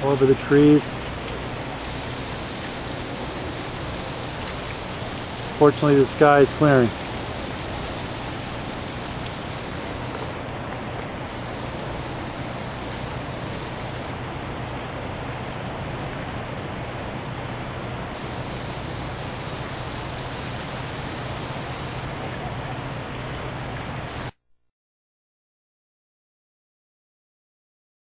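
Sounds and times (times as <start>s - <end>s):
melting ice dripping: 0.0s - 24.3s.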